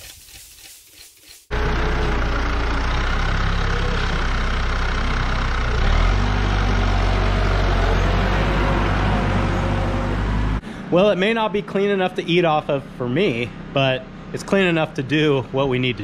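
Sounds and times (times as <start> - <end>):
tractor diesel engine running: 1.5 - 16.0.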